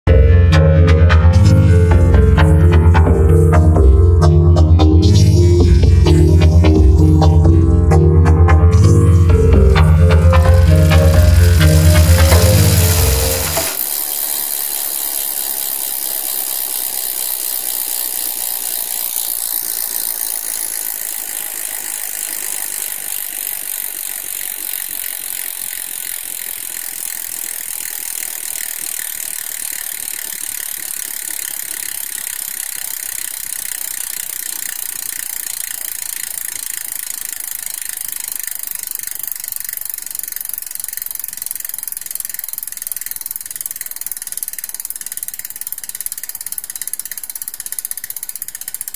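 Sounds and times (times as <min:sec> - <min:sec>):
bicycle freehub ratchet clicking: 0:08.8 - 0:48.9.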